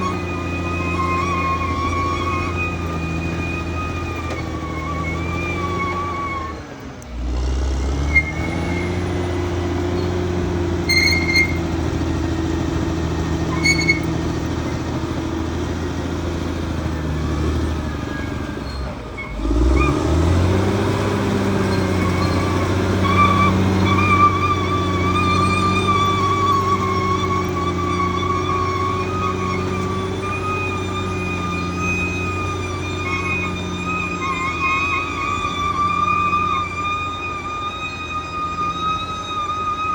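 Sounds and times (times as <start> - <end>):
short high squeaks: 0.0 - 6.9, 8.0 - 16.6, 17.2 - 39.9
bulldozer diesel engine running: 0.0 - 39.9.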